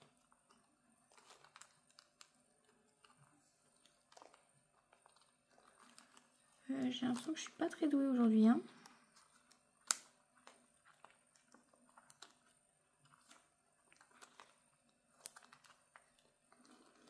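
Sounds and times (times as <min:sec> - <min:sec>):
plastic rustling: 0:00.0 - 0:17.0.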